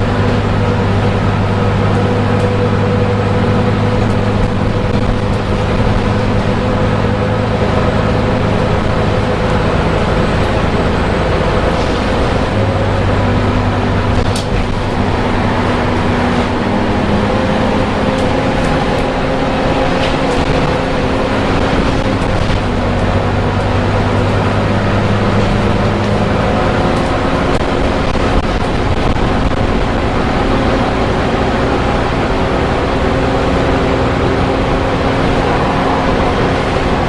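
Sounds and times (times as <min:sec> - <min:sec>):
bus diesel engine hum: 0:00.0 - 0:37.0
road noise: 0:00.0 - 0:37.0.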